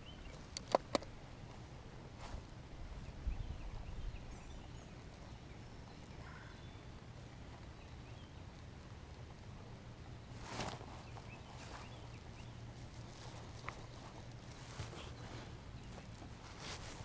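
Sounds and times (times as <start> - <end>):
bird calls: 0.0 - 1.7, 2.9 - 17.0.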